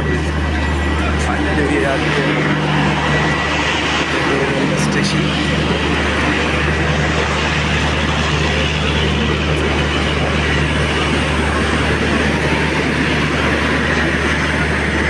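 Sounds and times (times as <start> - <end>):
electric locomotive humming: 0.0 - 15.0.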